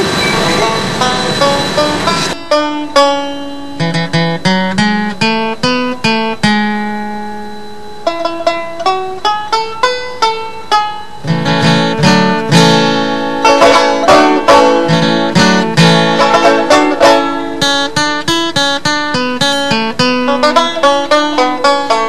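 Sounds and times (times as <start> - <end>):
plucked string instrument melody: 0.0 - 22.0.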